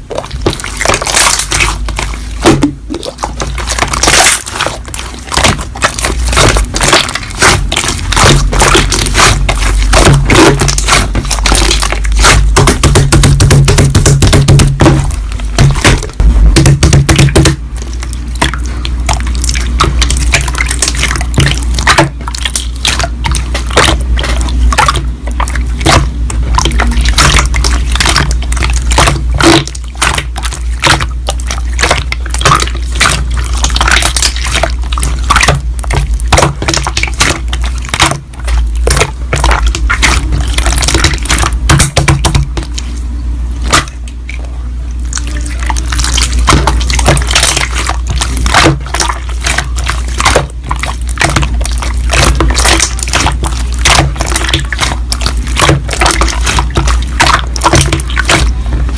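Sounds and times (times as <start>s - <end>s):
slime squelching and popping: 0.0s - 58.9s.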